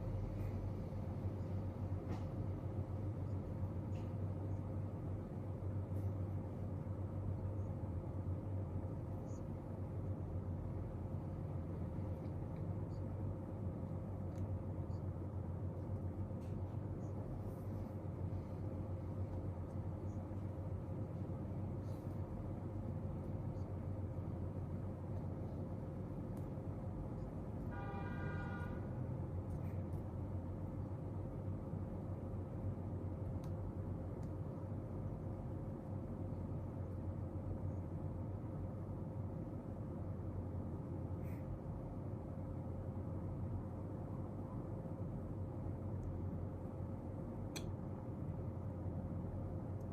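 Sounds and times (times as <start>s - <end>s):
faint constant tone: 0.0s - 49.9s
low room hum: 0.0s - 49.9s.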